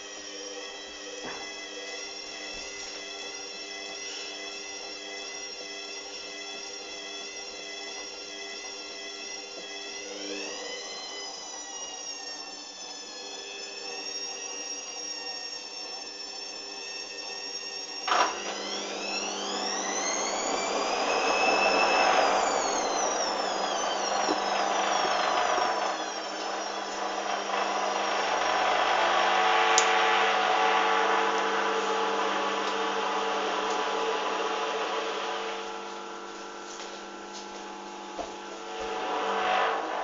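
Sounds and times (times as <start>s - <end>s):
washing machine spin whine: 0.0s - 40.0s.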